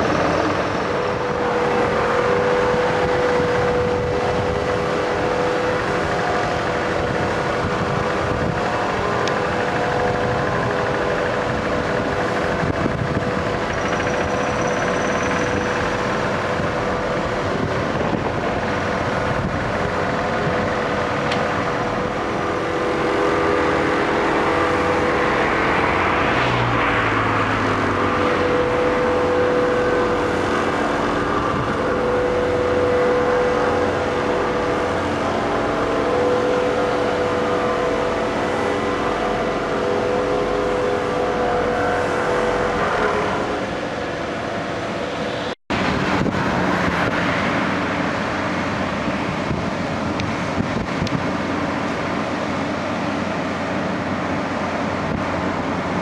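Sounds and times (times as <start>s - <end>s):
asphalt paver diesel engine: 0.0s - 56.0s
engine whine: 0.0s - 56.0s
road roller diesel engine running: 0.0s - 56.0s.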